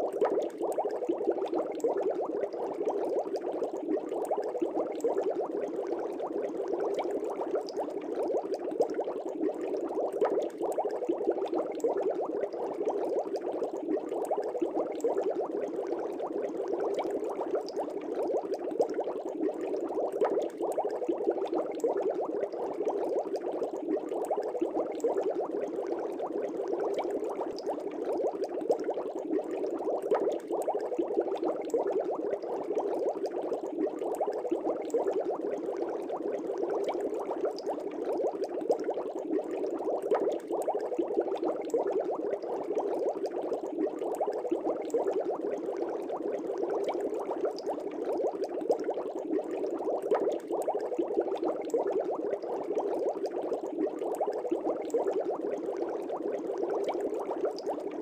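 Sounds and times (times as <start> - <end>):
bubbling aquarium water: 0.0 - 58.0.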